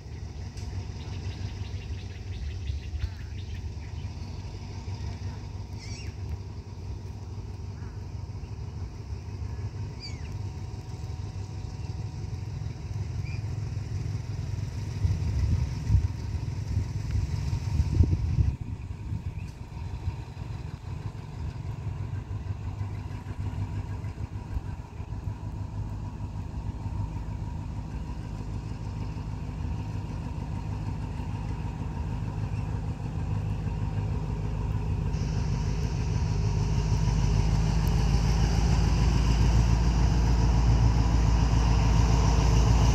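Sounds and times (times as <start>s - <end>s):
locomotive engine rumble: 0.0s - 42.9s.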